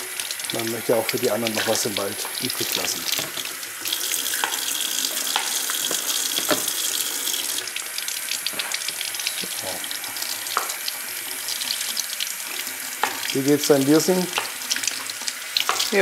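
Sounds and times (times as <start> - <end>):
tap water running: 0.0 - 16.0.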